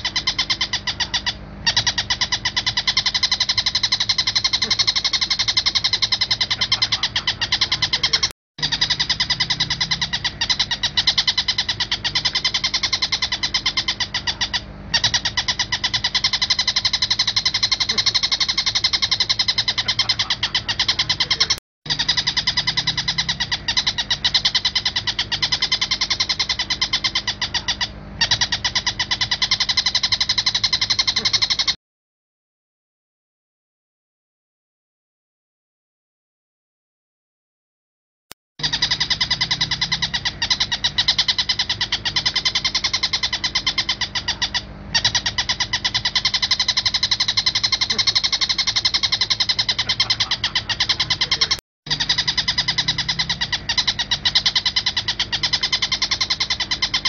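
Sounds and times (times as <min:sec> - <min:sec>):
bird chattering calls: 0:00.0 - 0:31.8, 0:38.6 - 0:57.0.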